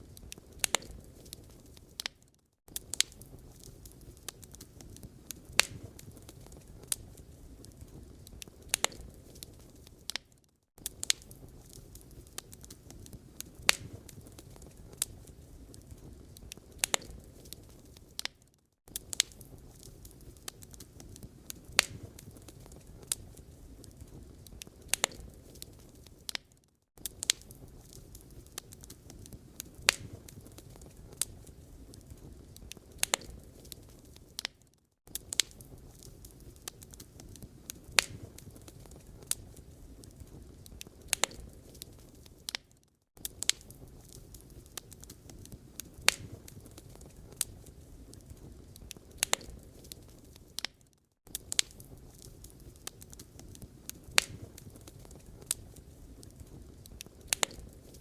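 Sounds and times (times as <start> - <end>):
fire crackling and popping: 0.0 - 58.0
soft noise of burning: 0.0 - 58.0.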